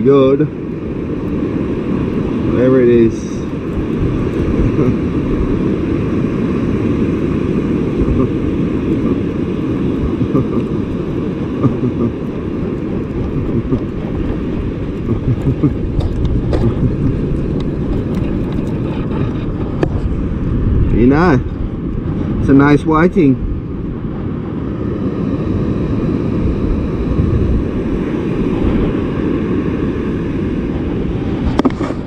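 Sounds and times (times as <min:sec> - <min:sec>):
breaking surf: 0:00.0 - 0:32.0
wind on microphone: 0:00.0 - 0:32.0.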